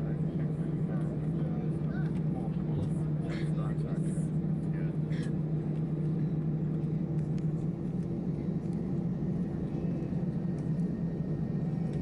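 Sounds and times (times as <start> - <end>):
airplane cabin engine hum: 0.0 - 12.0.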